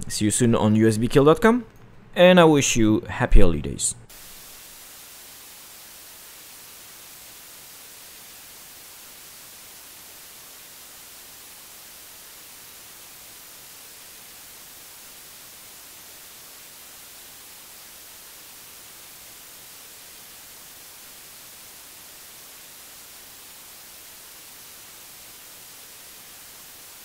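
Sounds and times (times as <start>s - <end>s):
white noise static hiss: 0.0s - 27.0s.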